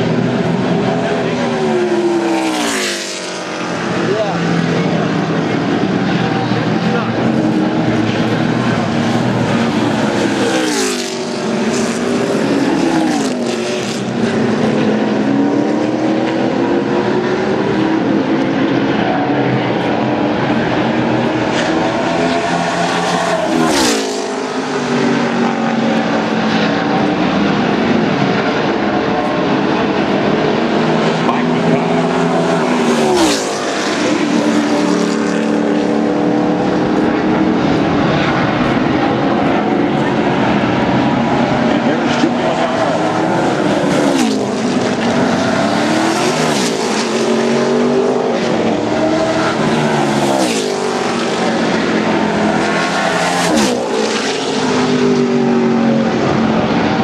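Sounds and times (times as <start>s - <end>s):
drone of race cars around track: 0.0s - 57.0s
race cars screaming past: 0.0s - 57.0s.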